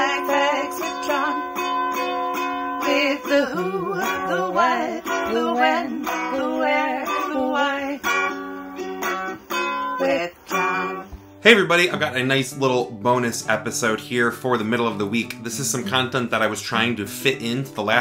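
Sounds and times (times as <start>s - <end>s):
person singing: 0.0s - 11.2s, 12.9s - 17.6s
strummed stringed instrument: 0.0s - 18.0s.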